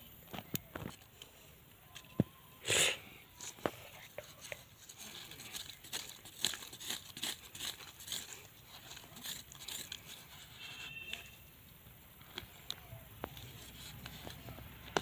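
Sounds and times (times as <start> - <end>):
hands scraping dry soil and leaves: 0.0 - 15.0.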